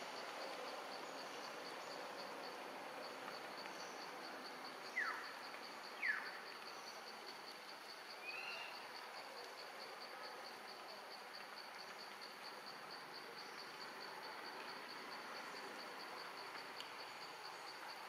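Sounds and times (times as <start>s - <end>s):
faint hiss: 0.0s - 18.0s
insect chirping: 0.1s - 18.0s.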